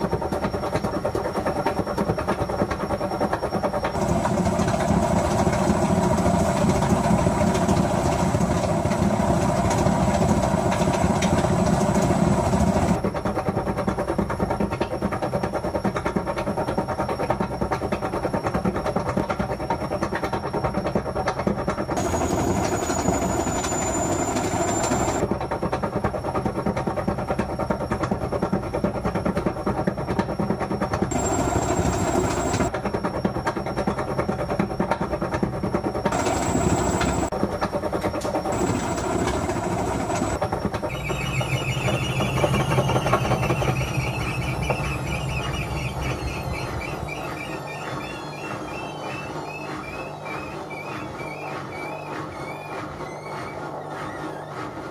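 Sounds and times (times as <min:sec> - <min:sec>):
washing machine spinning: 0:00.0 - 0:54.9.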